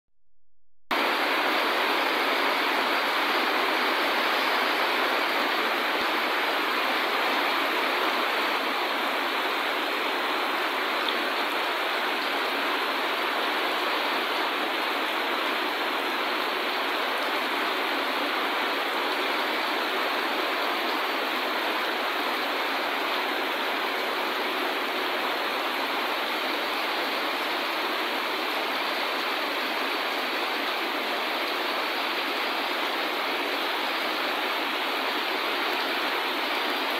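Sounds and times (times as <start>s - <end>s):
heavy rain pouring: 0.9s - 36.9s.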